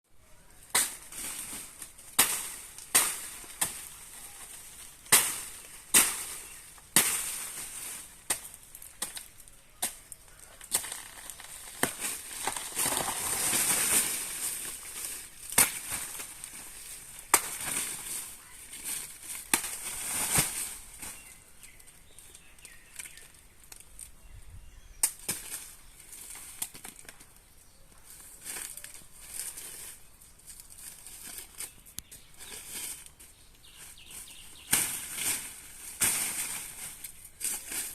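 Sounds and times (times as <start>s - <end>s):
leaves rustling: 0.2s - 37.9s.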